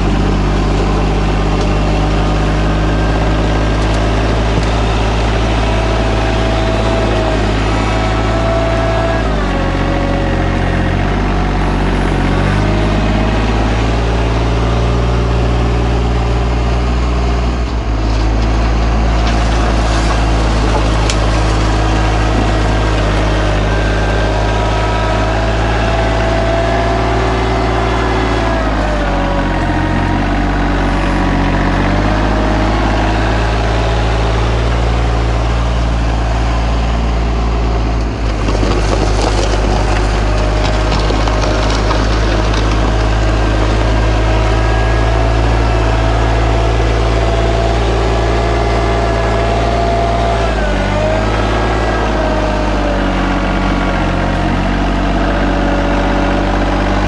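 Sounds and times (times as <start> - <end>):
loader bucket scraping dirt: 0.0 - 57.0
tractor diesel engine under load: 0.0 - 57.0.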